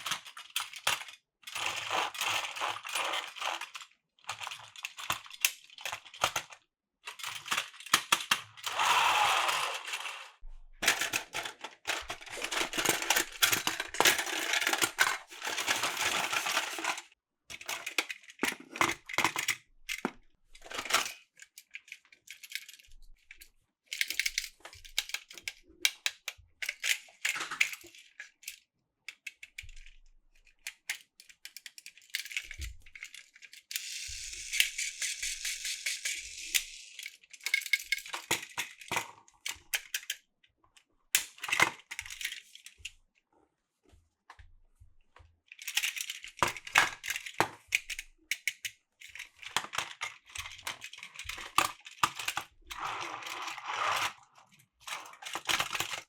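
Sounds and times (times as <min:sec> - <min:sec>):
plastic toy trains clicking and rattling: 0:00.0 - 0:42.9, 0:45.5 - 0:56.0.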